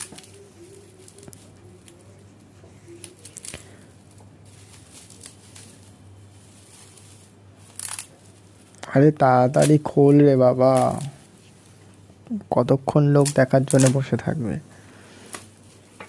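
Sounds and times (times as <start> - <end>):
plastic wrapping rustling: 0.0 - 14.6, 15.2 - 16.0
low steady hum: 0.0 - 16.0.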